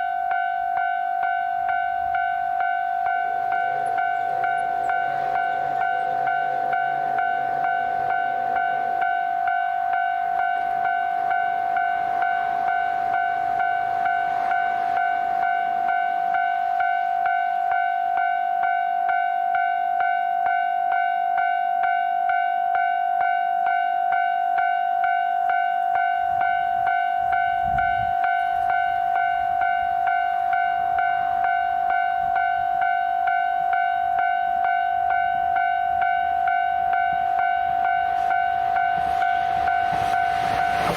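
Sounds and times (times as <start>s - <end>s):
train rumbling: 0.0s - 20.1s, 24.1s - 40.9s
level crossing warning bell ringing: 0.0s - 40.9s.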